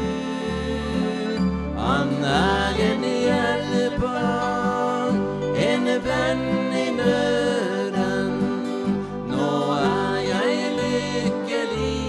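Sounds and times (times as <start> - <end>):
accordion: 0.0 - 12.0
acoustic guitar: 0.0 - 12.0
man singing a hymn: 0.0 - 12.0.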